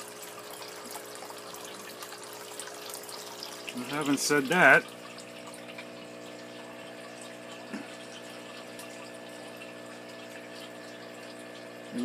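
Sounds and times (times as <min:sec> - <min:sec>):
water pump humming: 0:00.0 - 0:12.0
water trickling: 0:00.0 - 0:12.0.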